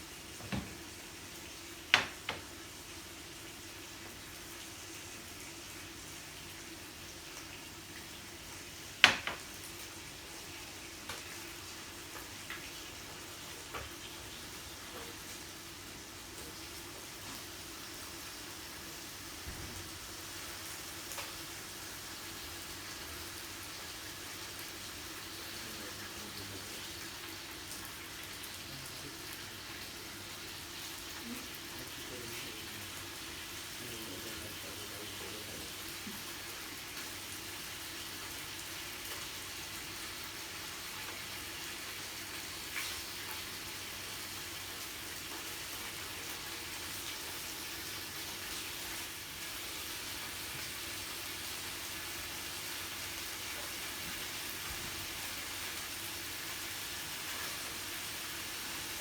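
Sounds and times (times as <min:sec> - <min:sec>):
meat sizzling on a grill: 0:00.0 - 0:59.0.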